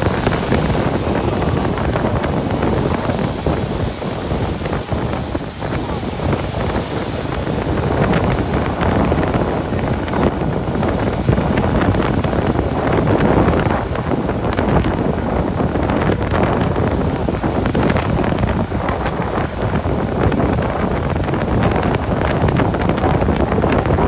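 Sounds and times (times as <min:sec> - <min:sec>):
traffic on wet road: 0:00.0 - 0:24.0
wind buffeting microphone: 0:00.0 - 0:24.0.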